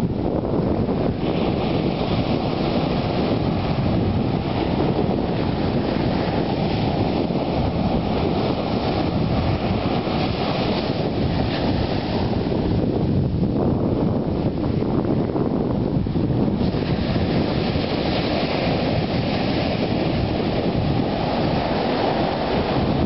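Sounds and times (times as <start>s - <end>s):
sea surf breaking on beach: 0.0s - 23.0s
wind buffeting microphone: 0.0s - 23.0s.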